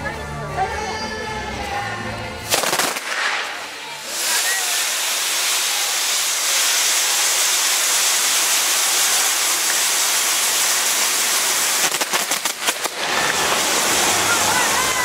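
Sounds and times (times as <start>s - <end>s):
fireworks crackling pops: 2.4s - 15.0s
spark fountains hissing: 2.4s - 15.0s.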